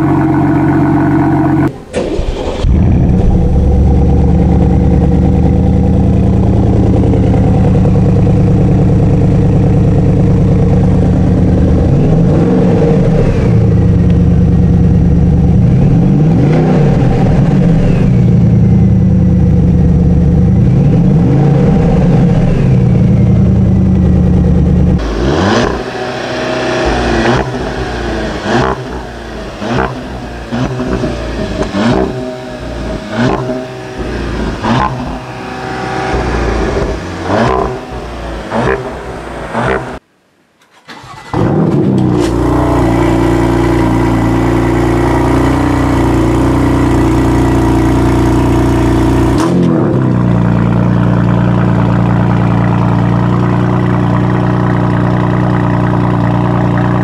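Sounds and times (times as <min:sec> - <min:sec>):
exhaust cracks: 0:00.0 - 0:40.0, 0:40.6 - 0:57.0
turbo car engine revving: 0:00.0 - 0:40.0, 0:40.8 - 0:57.0
car engine revving: 0:00.0 - 0:40.1, 0:40.8 - 0:57.0.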